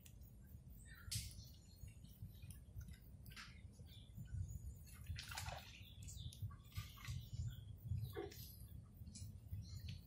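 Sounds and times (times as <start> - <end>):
water splashing and sloshing: 1.9 - 10.0.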